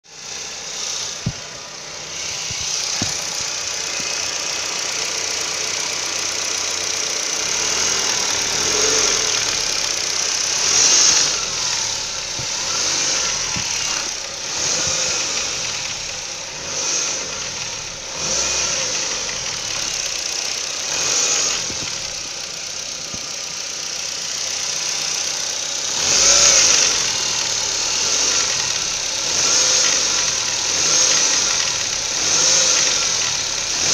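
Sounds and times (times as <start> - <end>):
car engine running: 0.0 - 33.9
engine knock: 0.1 - 33.9.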